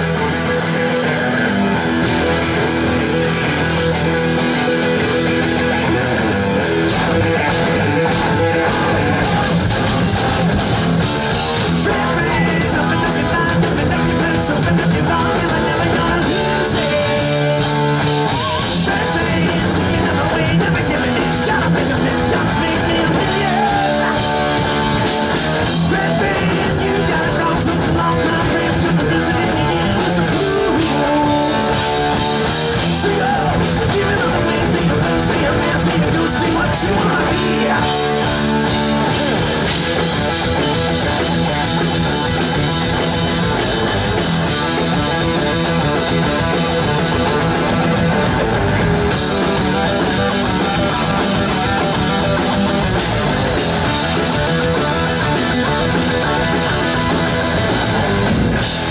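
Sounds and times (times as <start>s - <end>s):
heavy metal band playing live: 0.0s - 58.9s
melodic guitar line: 0.0s - 58.9s.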